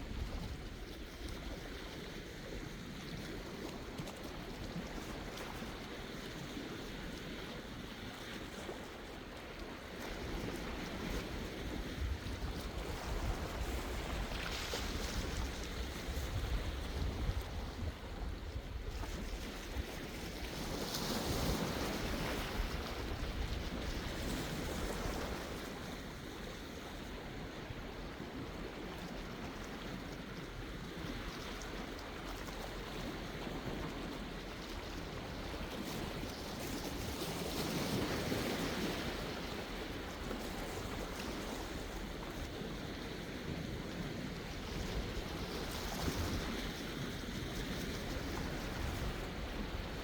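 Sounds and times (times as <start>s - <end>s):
wind rumble on microphone: 0.0s - 50.0s
sea waves washing in: 4.6s - 50.0s.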